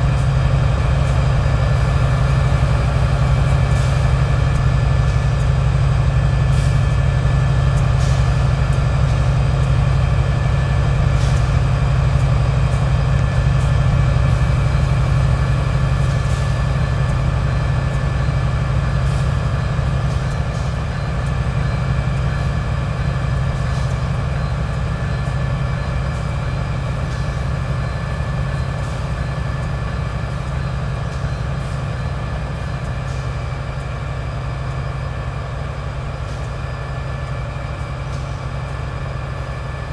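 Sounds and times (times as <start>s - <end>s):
diesel locomotive engine humming: 0.0s - 39.9s.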